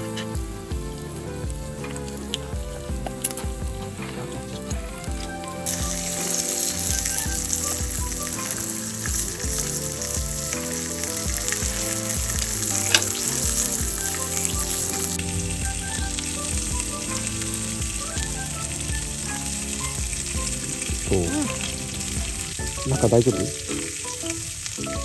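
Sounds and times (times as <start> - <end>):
fat popping: 0.0 - 23.8
meat sizzling on a grill: 0.0 - 25.0.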